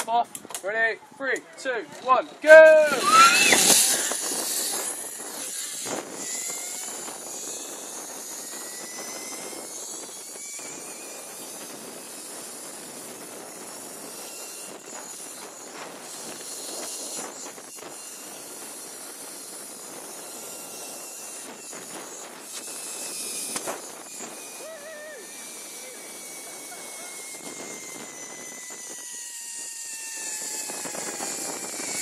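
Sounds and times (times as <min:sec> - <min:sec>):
zip line trolley whooshing: 0:01.9 - 0:32.0.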